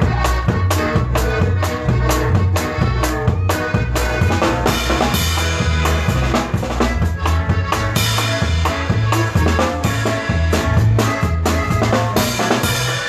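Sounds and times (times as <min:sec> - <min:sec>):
band playing instrumental music: 0:00.0 - 0:13.0
drum kit beat: 0:00.0 - 0:13.0.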